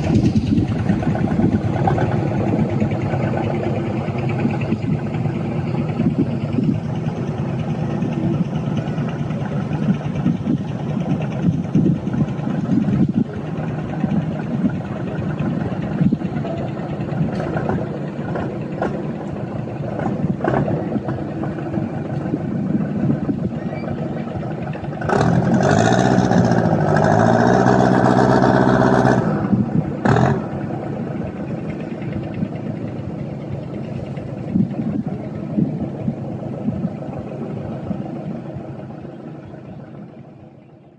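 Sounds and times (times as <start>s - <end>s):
diesel boat engine running: 0.0s - 40.9s.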